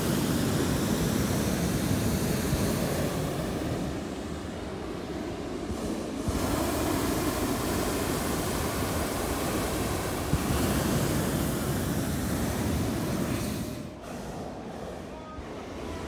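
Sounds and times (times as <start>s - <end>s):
propane burner roaring: 0.0s - 16.0s.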